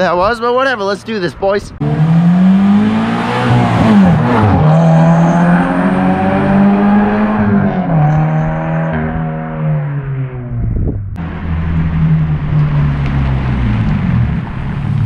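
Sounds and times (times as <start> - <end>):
car engine pulling hard: 1.8 - 15.0.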